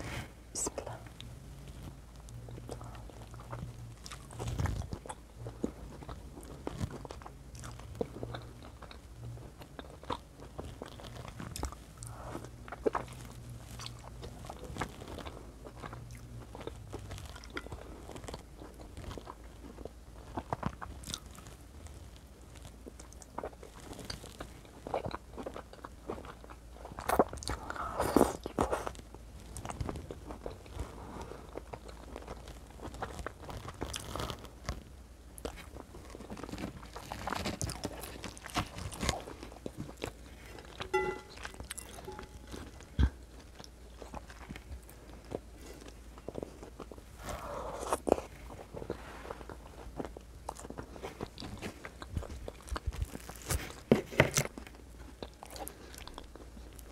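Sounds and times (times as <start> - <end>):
chewing and biting food: 0.9 - 56.9.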